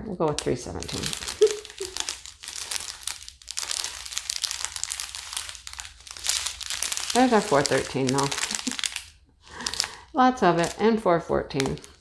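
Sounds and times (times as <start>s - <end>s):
plastic bags crinkling: 0.2s - 12.0s.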